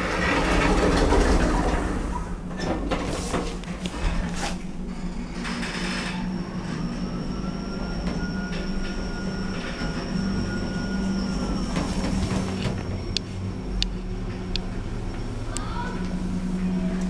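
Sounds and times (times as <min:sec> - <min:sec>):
lift drive hum: 0:00.0 - 0:17.0
thin whine: 0:02.1 - 0:17.0.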